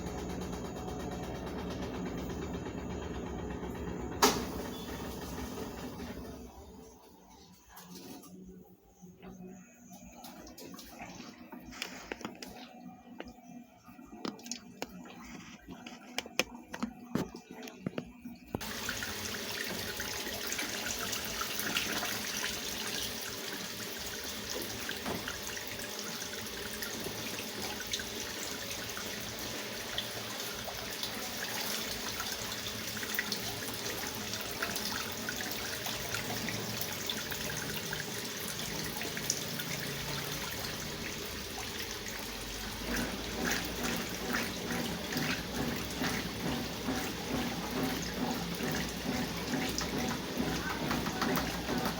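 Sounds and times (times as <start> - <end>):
water rushing into washing machine: 0.0 - 8.4, 18.5 - 51.9.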